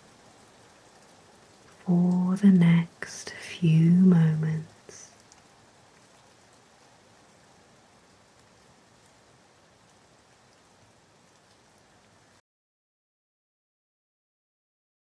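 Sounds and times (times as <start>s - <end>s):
rain falling: 0.0s - 12.4s.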